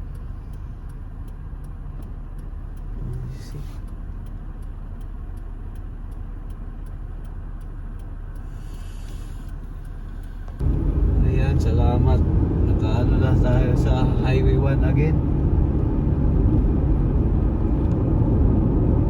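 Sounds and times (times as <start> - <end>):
car interior driving rumble: 0.0 - 19.0.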